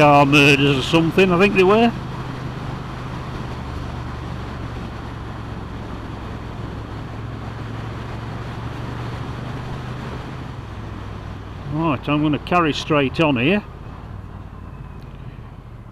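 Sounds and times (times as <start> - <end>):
wind and road noise: 0.0 - 15.9.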